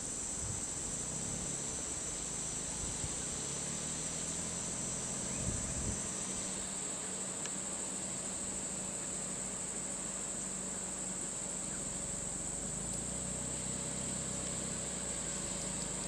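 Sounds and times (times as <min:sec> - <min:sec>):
faint low engine hum: 0:00.0 - 0:16.0
high-pitched insect drone: 0:00.0 - 0:16.0.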